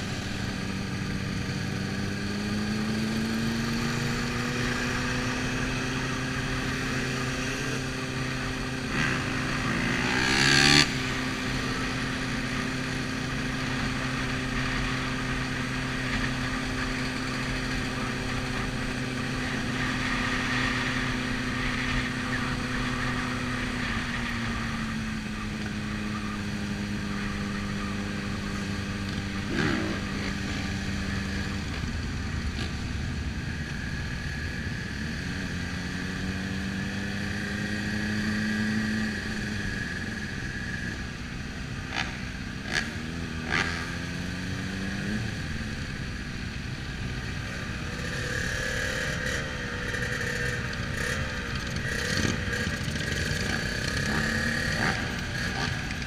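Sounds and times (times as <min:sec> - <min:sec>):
motorcycle engine running: 0:00.0 - 0:56.0
surrounding motorcycle engines: 0:00.0 - 0:56.0.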